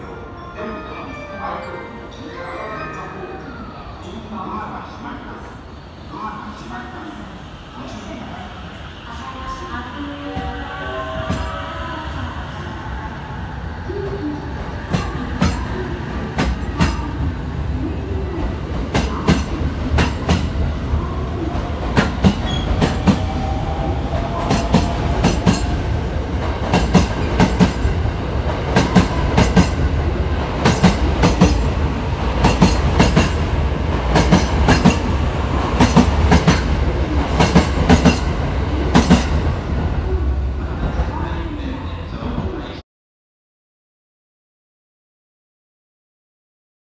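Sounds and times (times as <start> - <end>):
deep train rumble: 4.7 - 42.6.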